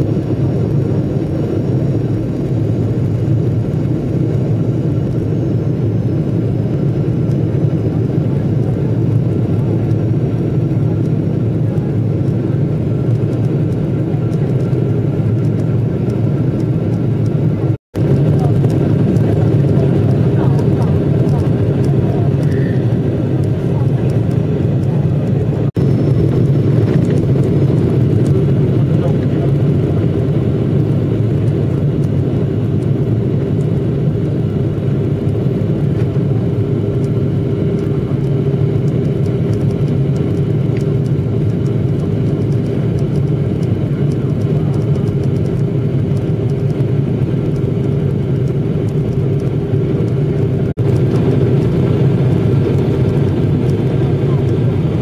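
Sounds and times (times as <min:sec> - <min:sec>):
airliner cabin engine drone: 0:00.0 - 0:55.0.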